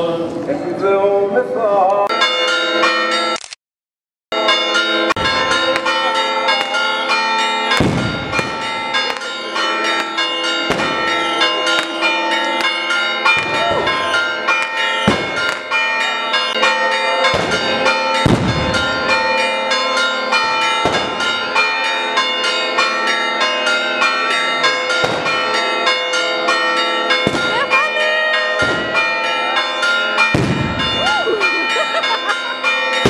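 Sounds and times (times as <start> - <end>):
church bells pealing: 2.1 - 3.4, 4.3 - 33.0.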